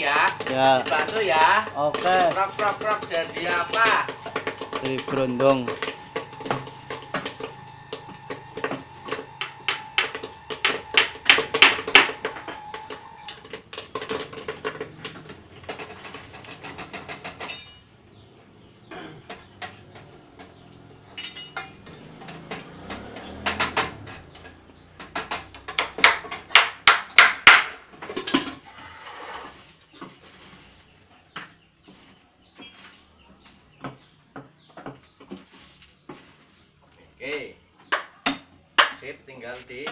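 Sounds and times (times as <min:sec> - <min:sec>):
sharp knocking and clattering: 0:00.0 - 0:18.2, 0:18.9 - 0:28.7, 0:31.3 - 0:36.4, 0:37.8 - 0:39.2.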